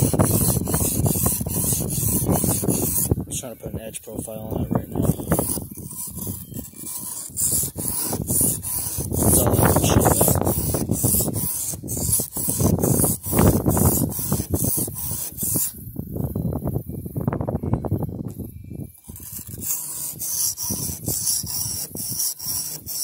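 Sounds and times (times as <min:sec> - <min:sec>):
knife blade rubbing on whetstone: 0:00.0 - 0:03.2, 0:04.4 - 0:15.8, 0:19.0 - 0:23.0.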